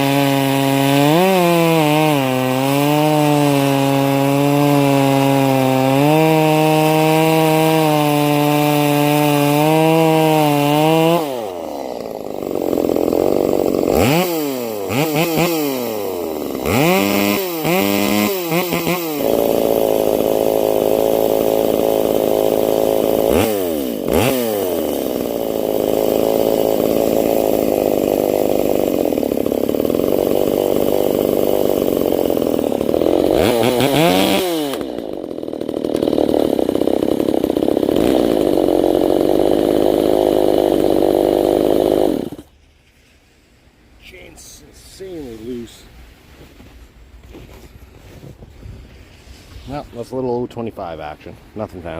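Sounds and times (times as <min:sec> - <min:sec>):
chainsaw revving: 0:00.0 - 0:42.6.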